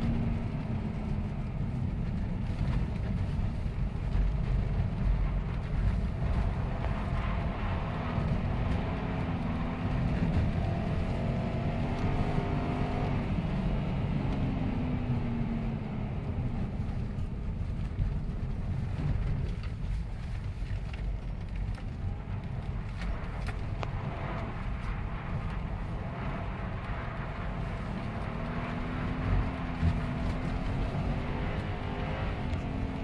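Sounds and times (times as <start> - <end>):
car engine accelerating: 0.0 - 33.0
road and tyre rumble: 0.0 - 33.0.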